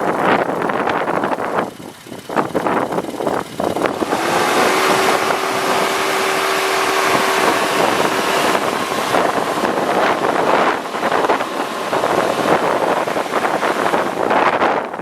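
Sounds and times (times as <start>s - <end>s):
truck engine running: 0.0s - 15.0s
wind buffeting the microphone: 0.0s - 15.0s.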